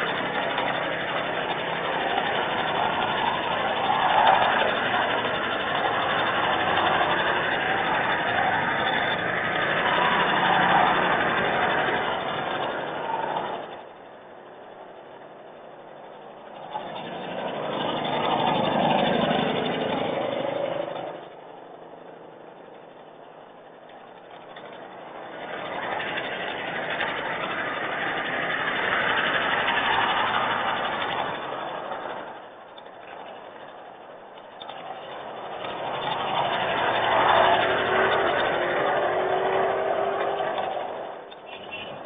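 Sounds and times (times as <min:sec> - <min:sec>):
motor vehicle noise with hiss: 0:00.0 - 0:42.0.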